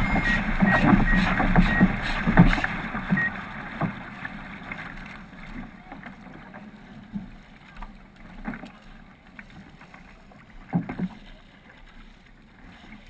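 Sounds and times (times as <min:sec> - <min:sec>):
kayak paddle splashing: 0:00.0 - 0:13.0.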